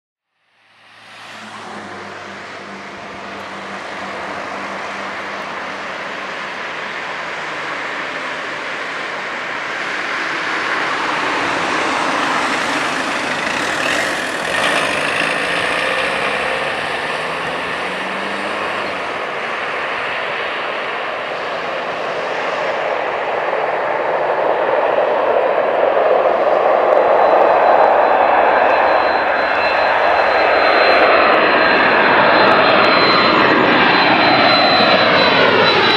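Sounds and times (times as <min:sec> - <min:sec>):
jet engines at takeoff power: 0:00.3 - 0:35.9.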